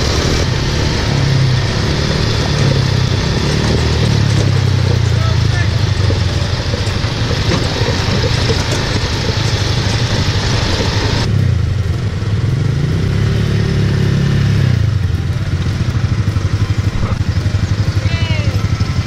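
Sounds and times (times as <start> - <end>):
small off-road engines droning: 0.0 - 19.0.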